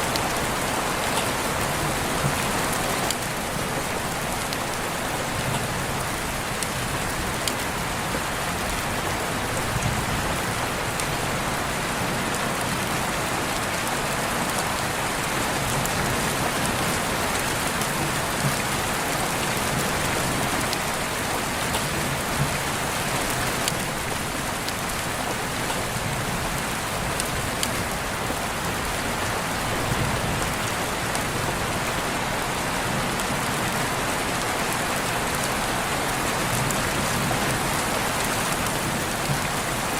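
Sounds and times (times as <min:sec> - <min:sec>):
raindrops pattering on surfaces: 0:00.0 - 0:39.9
steady rain falling: 0:00.0 - 0:39.9.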